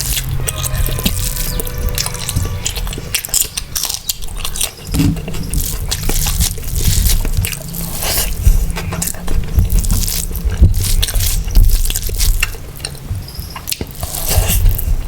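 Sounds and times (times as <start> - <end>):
chewing with wet smacking: 0.0 - 15.0.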